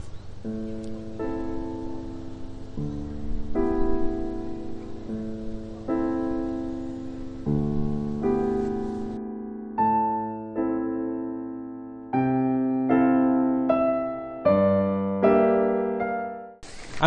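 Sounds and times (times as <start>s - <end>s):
solo piano chords: 0.0s - 16.6s.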